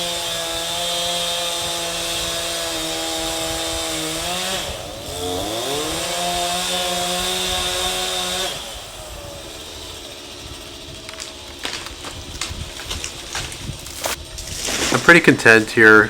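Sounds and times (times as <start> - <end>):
chainsaw revving and idling: 0.0 - 16.0.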